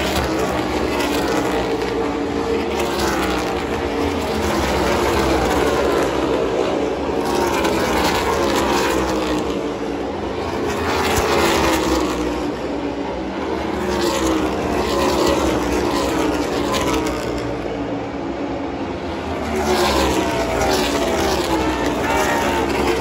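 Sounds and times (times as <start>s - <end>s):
race cars passing: 0.0s - 23.0s.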